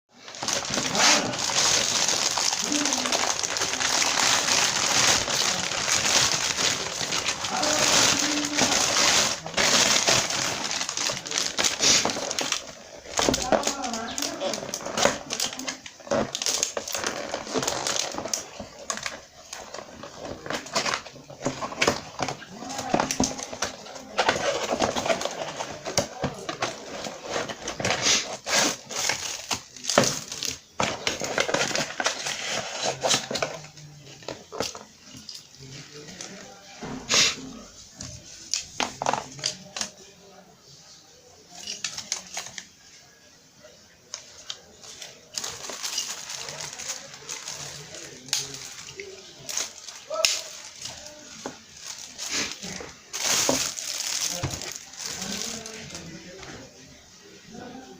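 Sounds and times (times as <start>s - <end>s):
plastic packaging crinkling: 0.2s - 36.6s, 41.4s - 57.3s.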